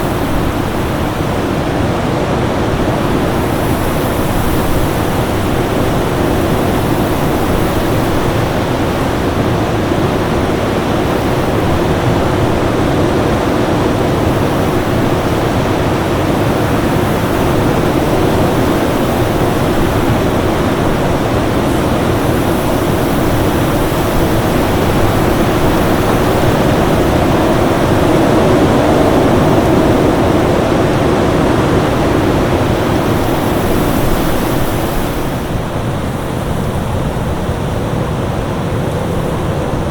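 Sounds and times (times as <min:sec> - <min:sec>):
storm wind rushing: 0:00.0 - 0:39.9.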